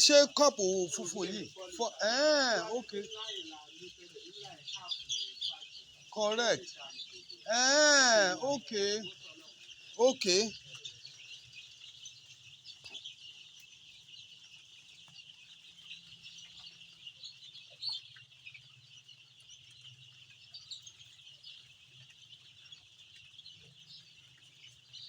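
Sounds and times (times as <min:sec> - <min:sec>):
chicks cheeping: 0:00.0 - 0:25.0.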